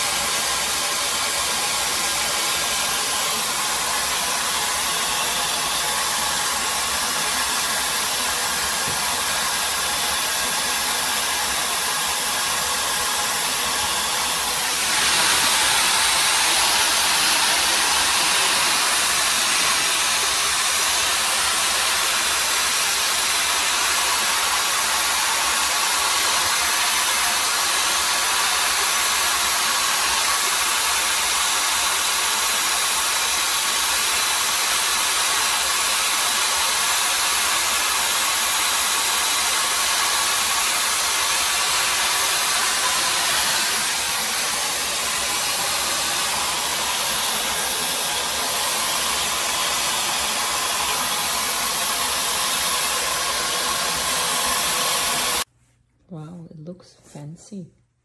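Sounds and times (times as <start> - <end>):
hot air brush blowing: 0.0 - 55.5.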